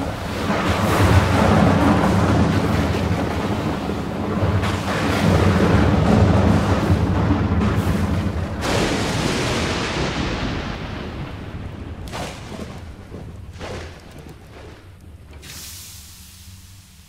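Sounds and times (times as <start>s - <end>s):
weaker thunder cracks: 0.0s - 15.4s
thunderclap with rumble: 0.0s - 15.5s.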